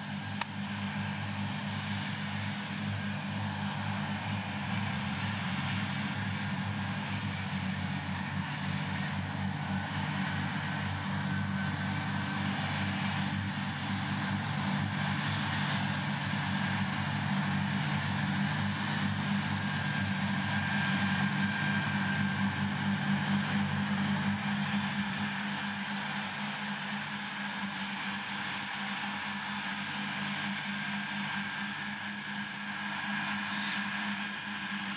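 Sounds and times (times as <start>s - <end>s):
mowers whirring: 0.0s - 34.9s
tractor diesel engine: 0.0s - 34.9s.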